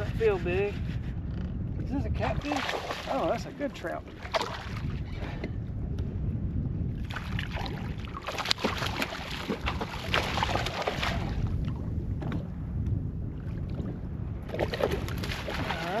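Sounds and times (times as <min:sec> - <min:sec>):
water around a kayak: 0:00.0 - 0:16.0
wind rumbling on microphone: 0:00.0 - 0:16.0.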